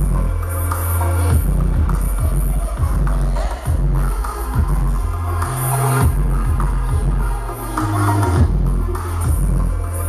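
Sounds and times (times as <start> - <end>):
loud electronic rap music: 0.0 - 10.0.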